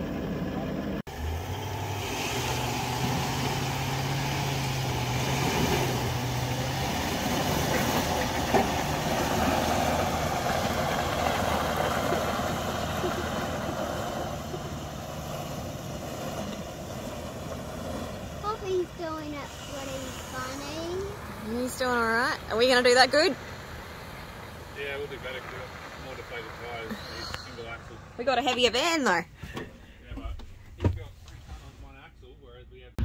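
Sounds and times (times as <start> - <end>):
engine working under load: 0.0 - 32.3.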